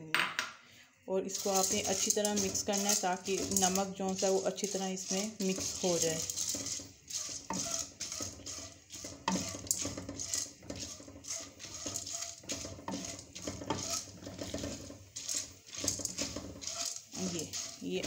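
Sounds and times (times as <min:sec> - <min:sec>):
kernels rattling against metal pan: 0:01.2 - 0:18.0.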